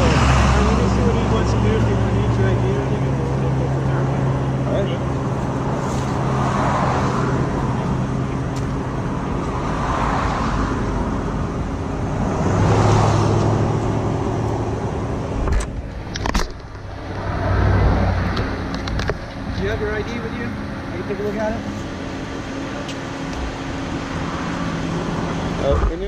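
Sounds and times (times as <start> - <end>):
low engine hum: 0.0 - 26.0
vehicles rushing by: 0.0 - 26.0.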